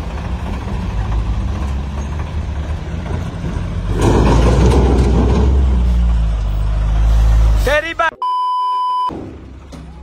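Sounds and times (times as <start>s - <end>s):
tractor diesel engine under load: 0.0s - 8.1s.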